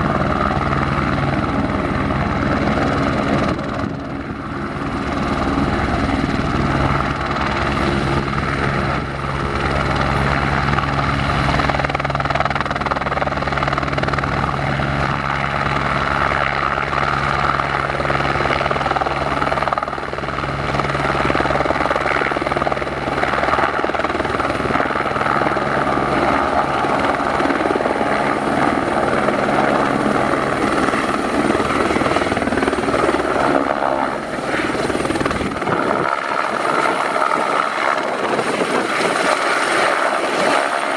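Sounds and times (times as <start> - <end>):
helicopter turbine and rotor: 0.0 - 40.9.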